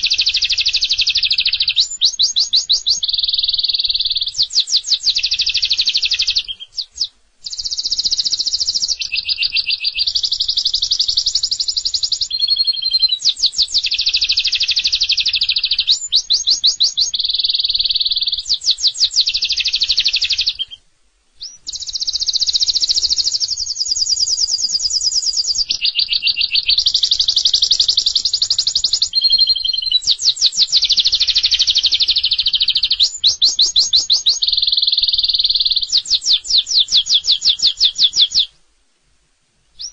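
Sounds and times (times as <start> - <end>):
canary singing trills: 0.0 - 20.8, 21.4 - 38.6.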